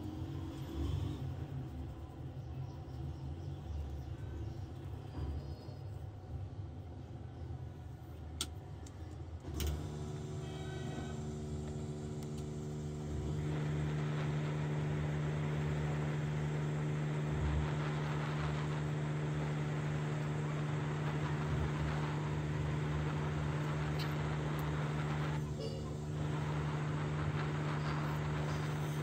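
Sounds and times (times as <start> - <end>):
fan hum: 0.0 - 29.0.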